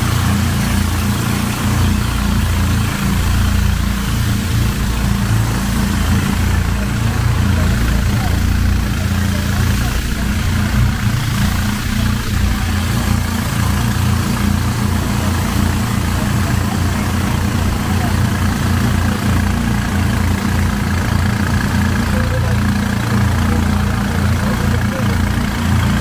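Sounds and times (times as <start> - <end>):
motor running steadily: 0.0 - 26.0.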